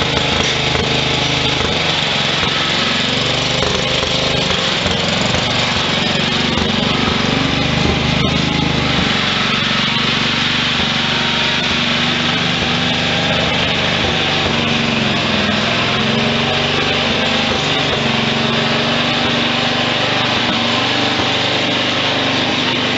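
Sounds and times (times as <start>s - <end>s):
garden tractor engine running: 0.0s - 22.9s.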